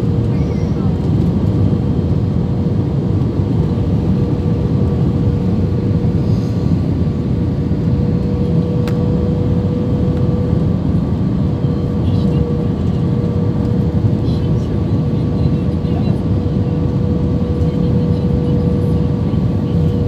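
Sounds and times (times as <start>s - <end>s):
constant hum: 0.0s - 20.0s
jet engines and airflow roar: 0.0s - 20.0s.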